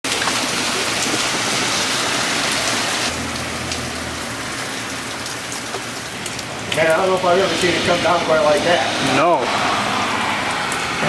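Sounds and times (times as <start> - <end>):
hail pelting down: 0.1 - 9.6.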